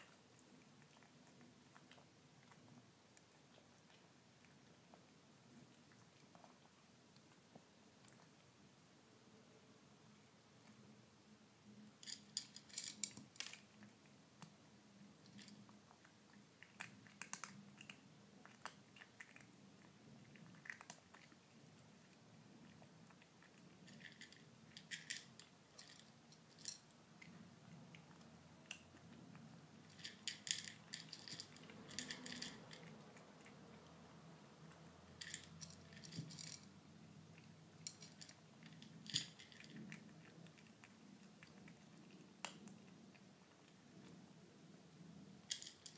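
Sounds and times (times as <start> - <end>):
kitten crunching dry kibble: 0.0 - 8.7, 12.0 - 45.9.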